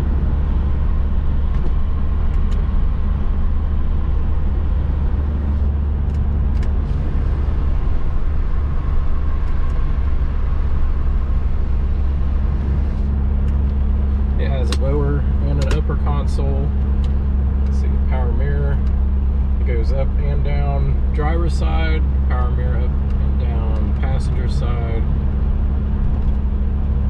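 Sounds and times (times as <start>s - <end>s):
car engine and road drone: 0.0s - 27.0s.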